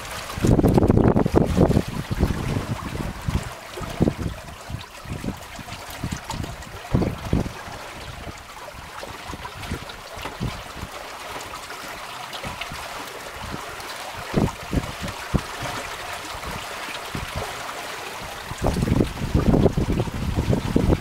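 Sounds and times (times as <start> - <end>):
wind buffeting the microphone: 0.0 - 11.1, 12.4 - 21.0
water splashing along a hull: 0.0 - 21.0.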